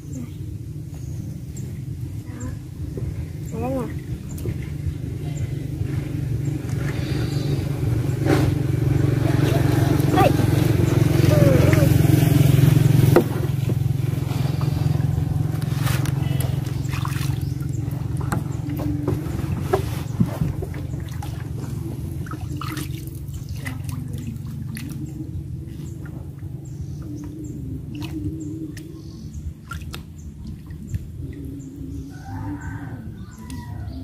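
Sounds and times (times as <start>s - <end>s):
low motor drone: 0.0s - 34.0s.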